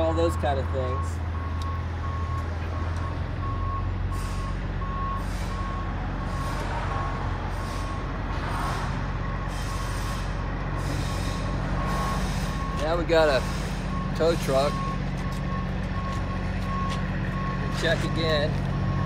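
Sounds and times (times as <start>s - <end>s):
reversing alarm beeps: 0.0s - 8.2s, 9.2s - 19.0s
truck engine running: 0.0s - 19.0s.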